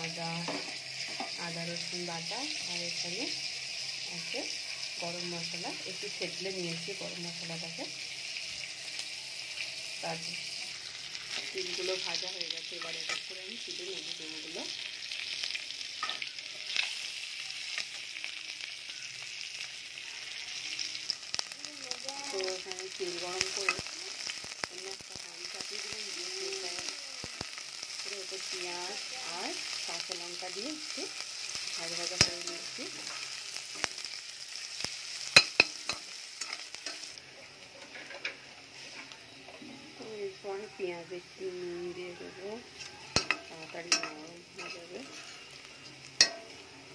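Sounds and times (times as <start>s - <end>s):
eggs sizzling in oil: 0.0s - 46.9s.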